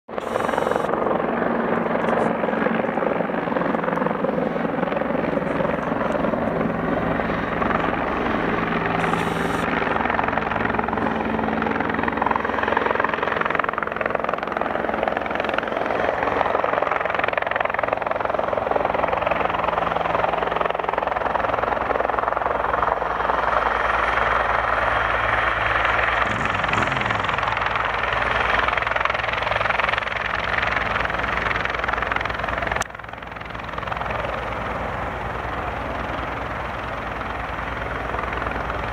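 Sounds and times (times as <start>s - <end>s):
helicopter rotor and turbine: 0.1s - 38.9s.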